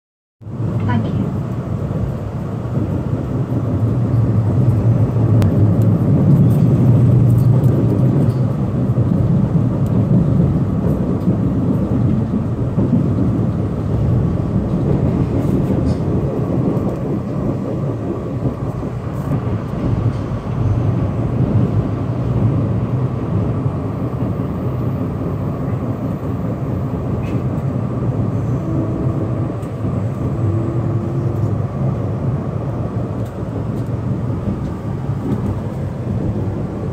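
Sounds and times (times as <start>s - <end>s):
train car low drone: 0.4s - 36.9s
train wheels on rails: 0.5s - 36.9s.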